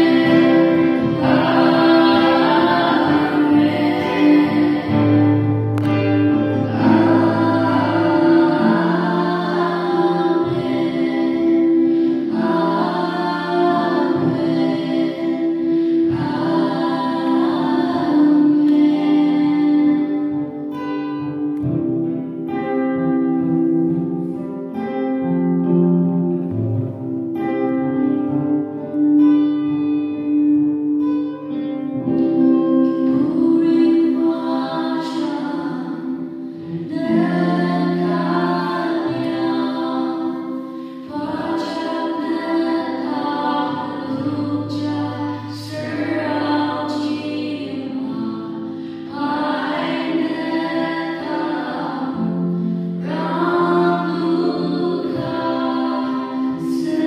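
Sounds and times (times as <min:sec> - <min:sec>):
women singing: 0:00.0 - 0:20.8, 0:32.0 - 0:57.0
acoustic guitar: 0:00.0 - 0:57.0.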